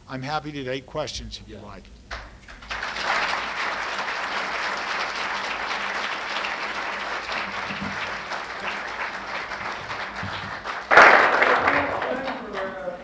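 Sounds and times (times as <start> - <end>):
audience applauding: 2.5 - 13.0.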